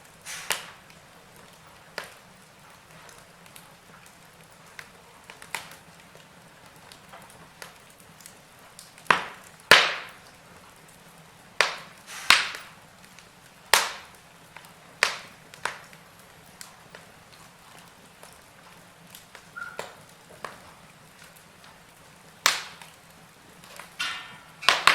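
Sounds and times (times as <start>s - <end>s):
fire hissing: 0.0s - 24.9s
wood fire crackling and popping: 0.0s - 24.9s.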